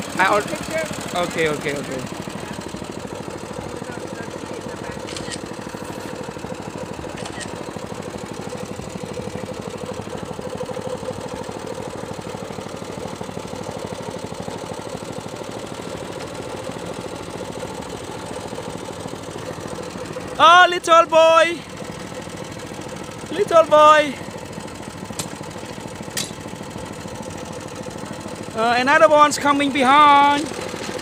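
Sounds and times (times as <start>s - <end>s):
small engine idling: 0.0s - 31.0s.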